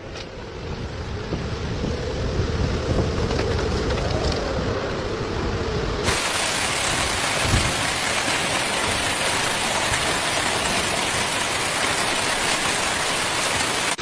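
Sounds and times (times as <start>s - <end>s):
heavy rain pouring: 0.8s - 14.0s.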